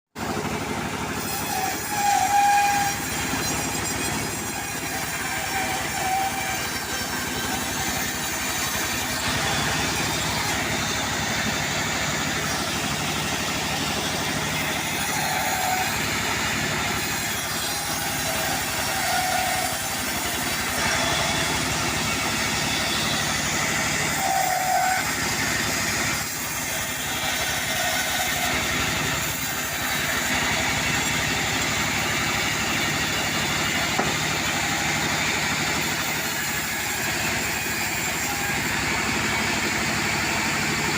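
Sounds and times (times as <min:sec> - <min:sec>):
sawmill engine and saw running: 0:00.1 - 0:40.9.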